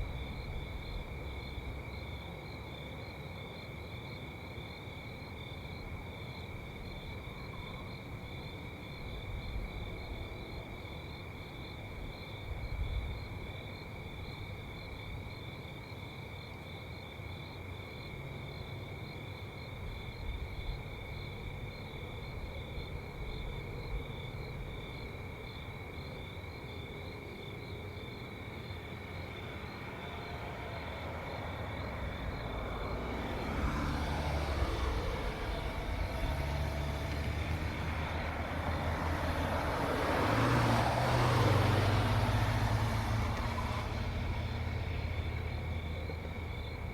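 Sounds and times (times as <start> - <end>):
road vehicle approaching: 0.0 - 15.6, 17.7 - 46.9
crickets chirping: 0.0 - 46.9.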